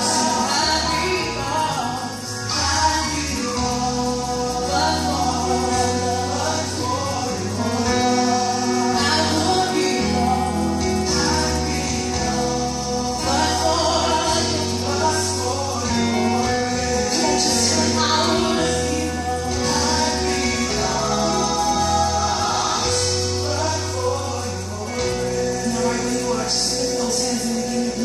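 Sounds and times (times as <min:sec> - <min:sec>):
choir singing gospel: 0:00.0 - 0:28.0
steady bass line: 0:00.0 - 0:28.0.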